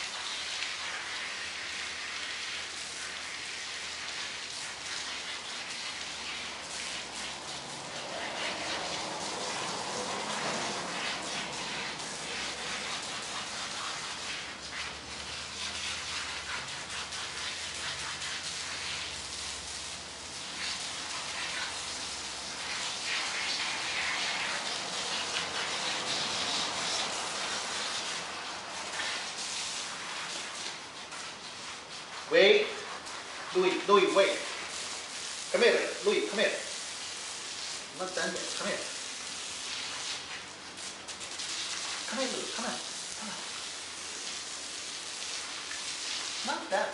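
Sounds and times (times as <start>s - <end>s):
garden hose spraying water: 0.0s - 46.9s.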